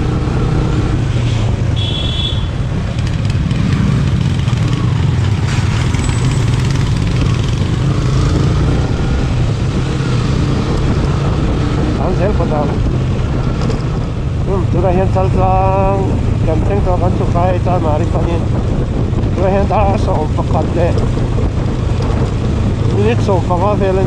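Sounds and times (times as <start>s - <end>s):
road noise: 0.0s - 24.0s
motorcycle engine running: 1.8s - 24.0s.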